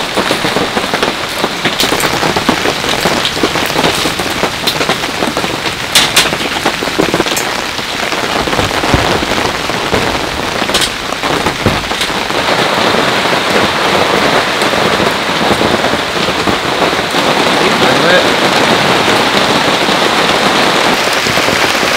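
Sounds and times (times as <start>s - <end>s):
heavy rain falling: 0.0s - 21.9s.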